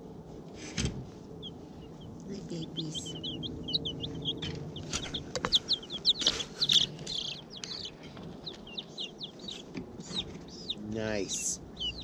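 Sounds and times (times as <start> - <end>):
chicks peeping: 0.6 - 12.0.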